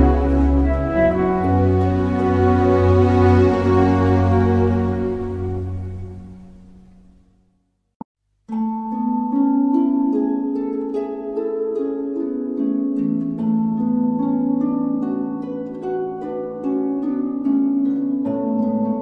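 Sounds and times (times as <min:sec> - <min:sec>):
calm instrumental music: 0:00.0 - 0:07.3, 0:08.5 - 0:19.0.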